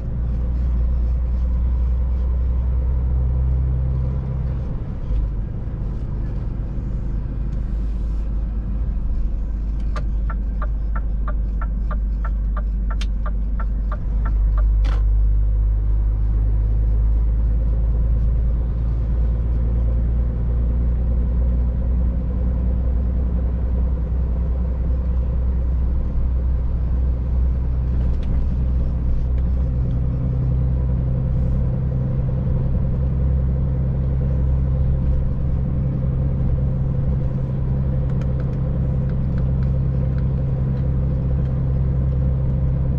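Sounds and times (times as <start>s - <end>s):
truck engine drone: 0.0s - 42.9s.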